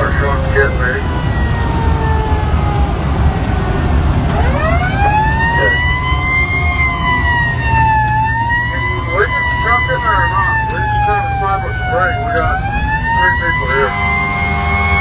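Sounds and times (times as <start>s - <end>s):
fire engine siren wailing: 0.0s - 15.0s
truck engine rumble and road noise: 0.0s - 15.0s.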